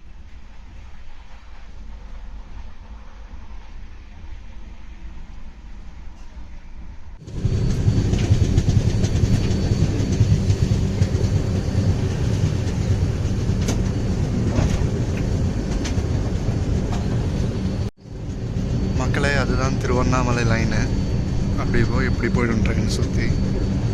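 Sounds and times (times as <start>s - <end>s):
train rumble: 0.0s - 23.9s.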